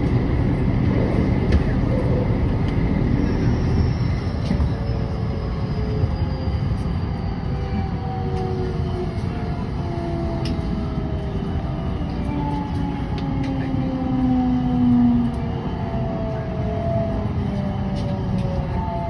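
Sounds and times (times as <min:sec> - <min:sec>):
train inverter whine gliding down: 0:00.0 - 0:19.0
train running gear rumble: 0:00.0 - 0:19.0.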